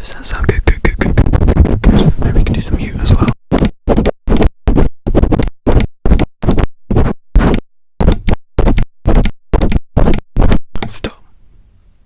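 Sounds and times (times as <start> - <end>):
scratching on microphone: 0.0 - 11.2.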